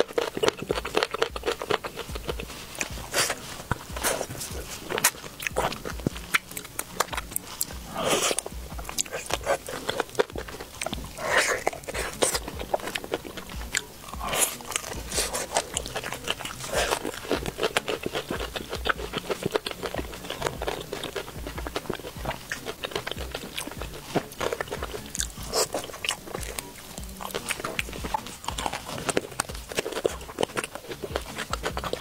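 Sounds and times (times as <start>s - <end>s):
crunching fried chicken: 0.0s - 32.0s
wet chewing: 0.0s - 32.0s.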